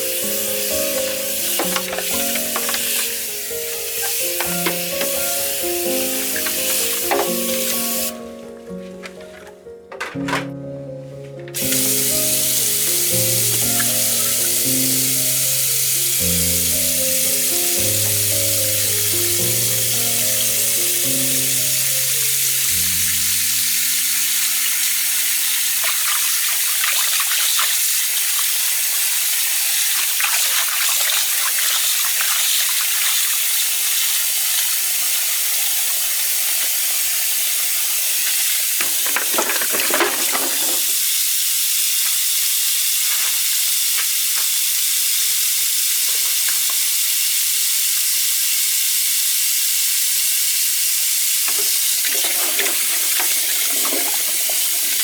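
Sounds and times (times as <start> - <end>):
food sizzling in a pan: 0.0 - 8.2, 11.6 - 55.0.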